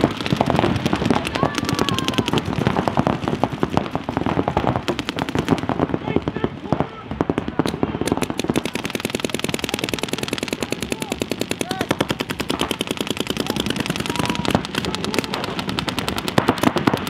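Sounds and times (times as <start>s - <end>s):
paintball markers firing: 0.0s - 17.0s.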